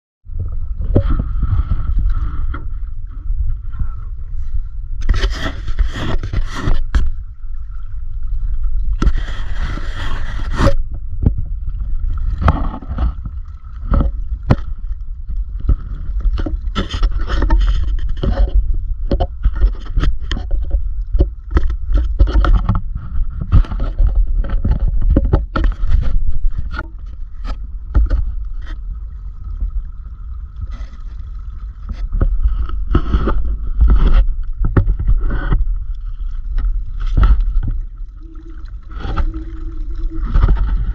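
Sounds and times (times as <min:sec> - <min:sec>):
knocks and scrapes from rod: 0:00.8 - 0:03.9, 0:05.0 - 0:07.2, 0:08.9 - 0:28.9, 0:31.8 - 0:40.9.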